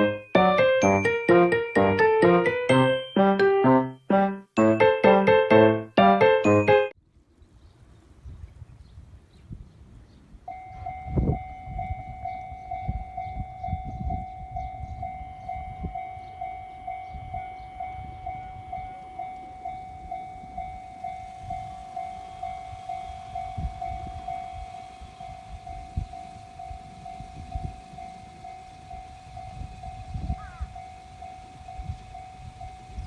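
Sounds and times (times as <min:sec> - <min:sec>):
level crossing warning bell: 0:00.0 - 0:07.0, 0:10.5 - 0:33.0.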